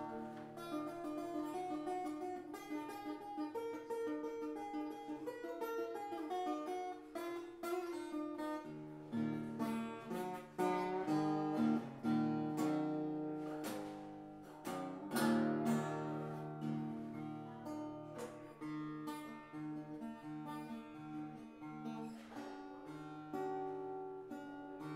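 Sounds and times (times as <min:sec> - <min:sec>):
acoustic guitar picking: 0:00.0 - 0:24.9
guitar chords strummed: 0:00.0 - 0:24.9.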